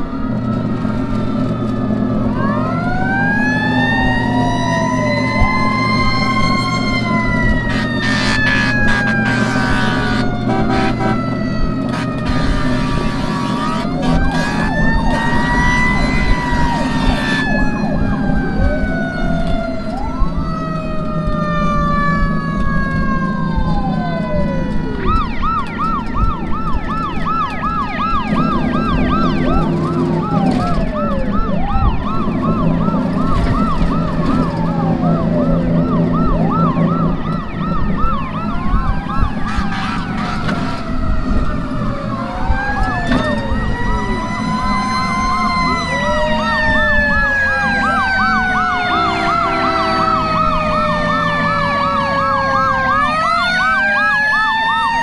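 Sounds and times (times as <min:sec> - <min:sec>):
fire engine sirens wailing: 0:00.0 - 0:55.0
siren rapid yelp: 0:00.0 - 0:55.0
truck engine drone: 0:00.0 - 0:55.0.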